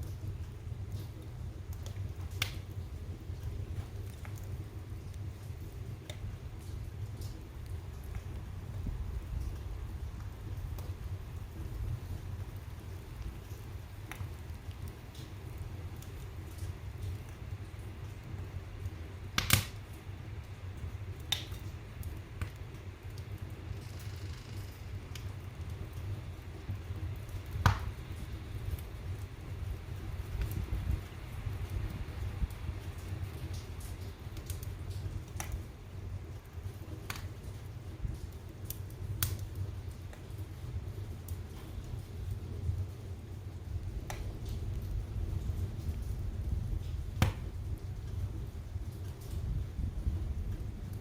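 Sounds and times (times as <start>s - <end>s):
fire rumbling in fireplace: 0.0s - 51.0s
wood fire crackling and popping: 0.0s - 51.0s.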